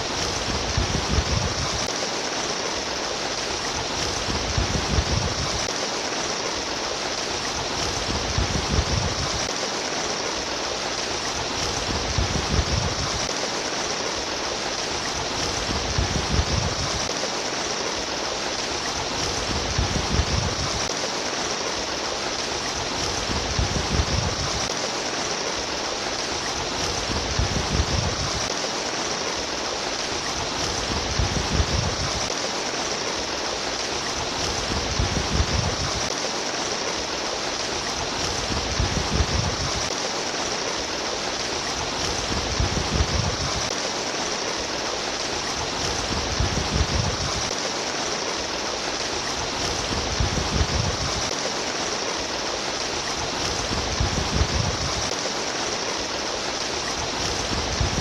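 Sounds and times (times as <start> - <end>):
stream water flowing and babbling: 0.0 - 58.0.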